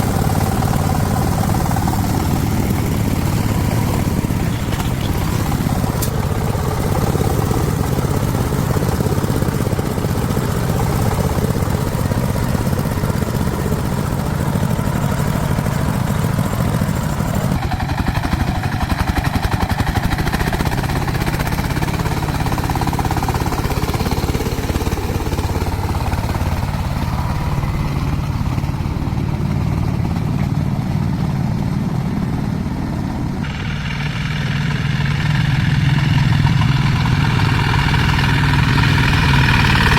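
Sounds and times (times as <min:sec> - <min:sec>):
farm vehicle engine running: 0:00.0 - 0:39.9.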